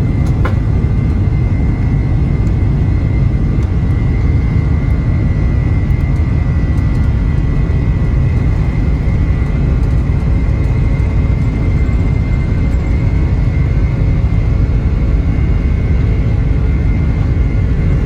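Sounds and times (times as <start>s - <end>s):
high engine whine: 0.0s - 18.0s
jet engines rumbling: 0.0s - 18.0s.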